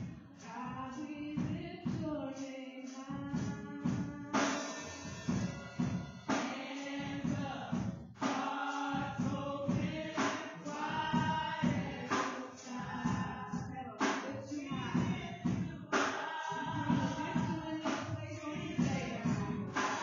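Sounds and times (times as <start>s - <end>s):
choir singing gospel with band: 0.0s - 20.0s.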